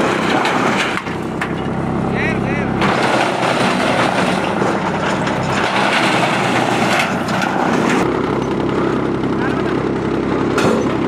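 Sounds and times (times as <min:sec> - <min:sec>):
wood chipper running: 0:00.0 - 0:11.0.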